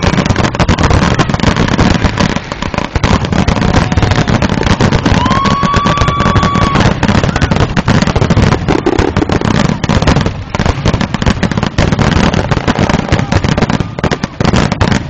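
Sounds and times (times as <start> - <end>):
fireworks bursting and crackling: 0.0 - 15.0.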